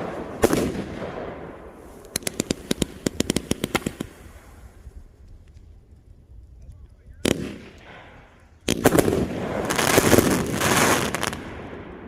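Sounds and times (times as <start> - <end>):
rapid firework bangs and crackle: 0.0 - 5.1, 7.1 - 12.0.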